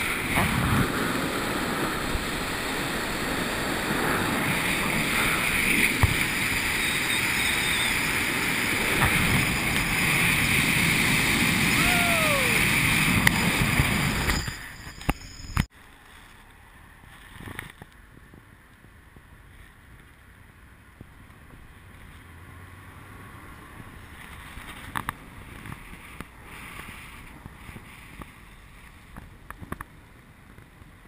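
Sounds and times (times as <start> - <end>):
car road and wind noise: 0.0 - 31.0.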